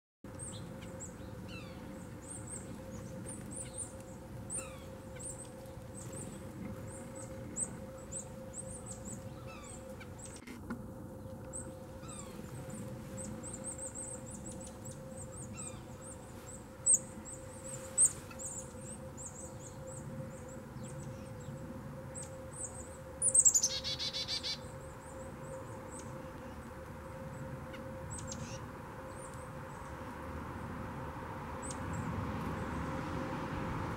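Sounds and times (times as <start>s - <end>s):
songbirds chirping: 0.3s - 33.8s
steady low hum: 0.3s - 33.9s.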